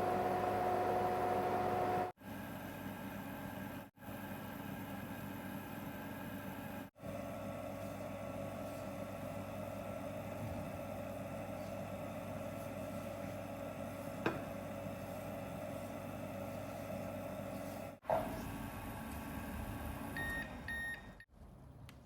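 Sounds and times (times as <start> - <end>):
kitchen appliance motor hum: 0.0 - 20.9.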